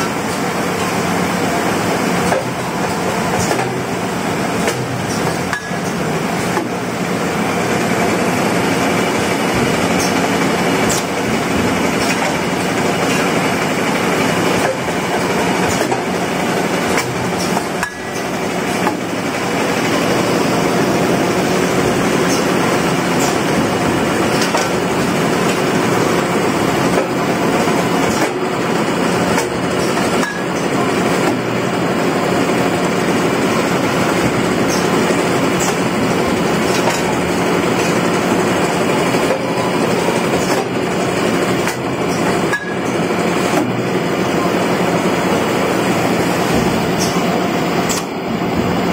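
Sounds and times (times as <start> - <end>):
machine mechanical clatter: 0.0 - 48.9.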